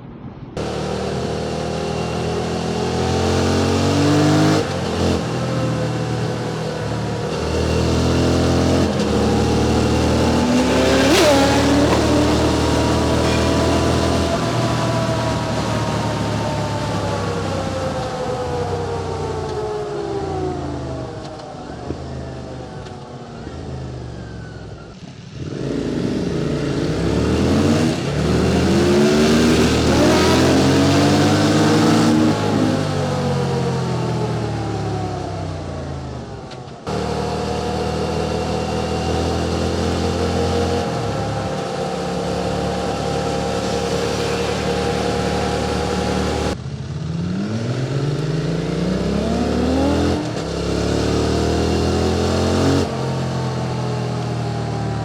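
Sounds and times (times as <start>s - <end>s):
motorcycle engine running: 0.6s - 55.0s.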